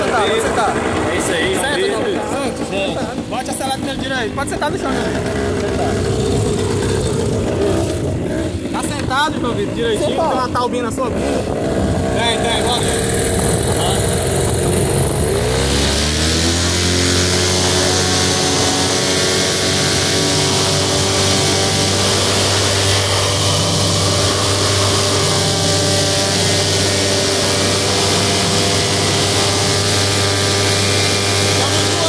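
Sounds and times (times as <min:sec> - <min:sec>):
paramotor engine and propeller: 0:00.0 - 0:32.0.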